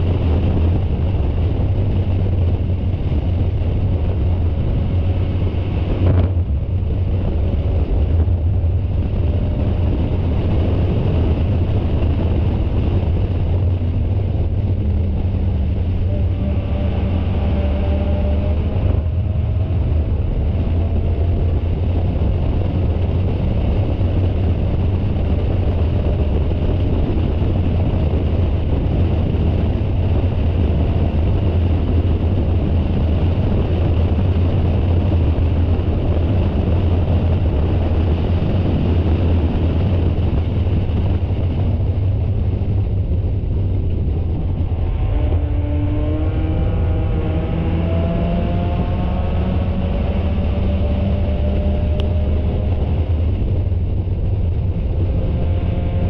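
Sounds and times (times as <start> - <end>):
race car engine drone: 0.0 - 56.0.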